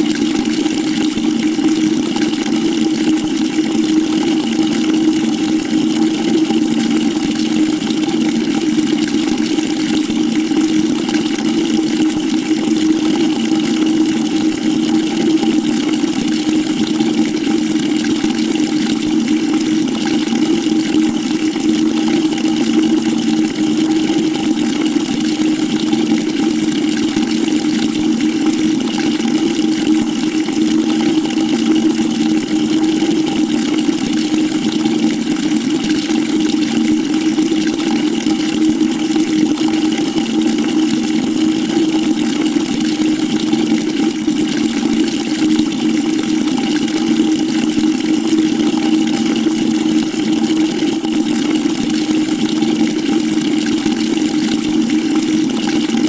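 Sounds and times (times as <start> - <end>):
water pouring into a bucket: 0.0 - 56.0.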